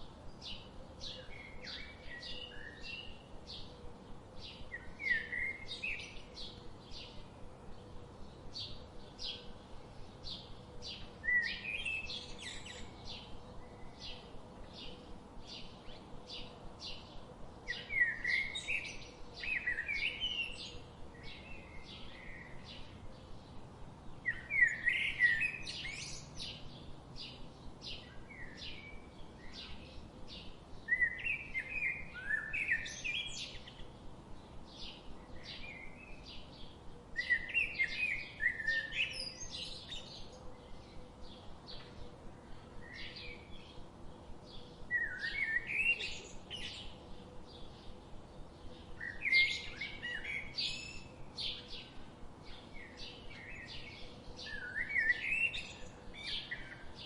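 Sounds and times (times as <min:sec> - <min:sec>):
bird warbling song: 0:00.0 - 0:03.7, 0:04.4 - 0:57.0
birds chirping: 0:00.4 - 0:57.0.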